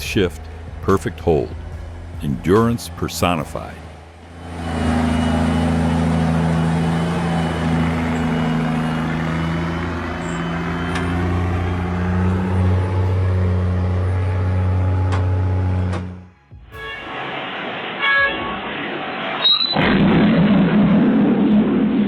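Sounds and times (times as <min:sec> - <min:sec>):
diesel truck engine running: 0:00.0 - 0:19.4.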